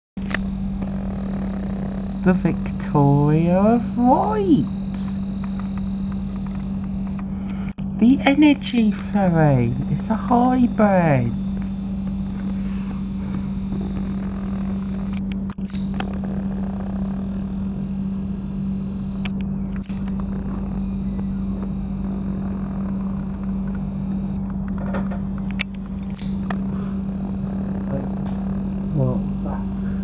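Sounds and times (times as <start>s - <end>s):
ferry engines droning: 0.2s - 30.0s.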